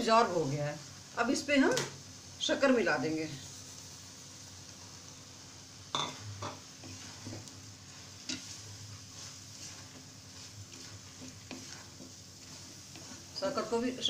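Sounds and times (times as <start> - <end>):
faint sizzle: 0.0 - 14.0
spatula stirring in a pan: 0.0 - 14.0.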